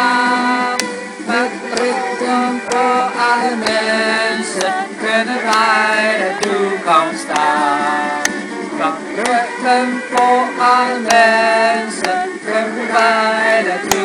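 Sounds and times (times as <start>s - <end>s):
man and woman singing: 0.0s - 14.0s
regular beat: 0.0s - 14.0s.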